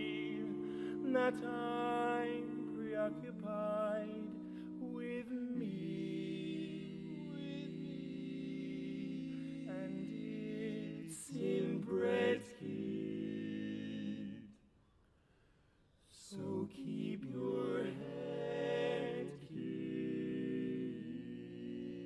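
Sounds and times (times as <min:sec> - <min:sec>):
male quartet singing in harmony: 0:00.0 - 0:14.6, 0:16.2 - 0:22.0.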